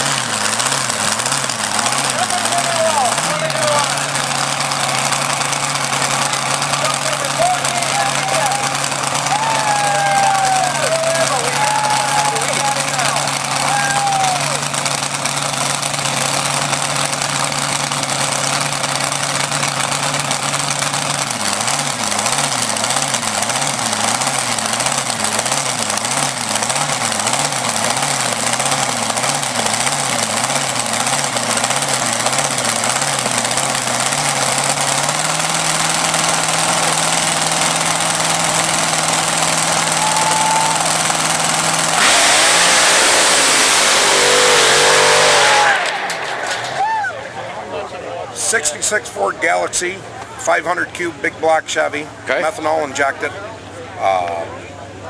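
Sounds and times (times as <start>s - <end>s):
engine idling with loping beat: 0.0s - 42.5s, 45.9s - 55.0s.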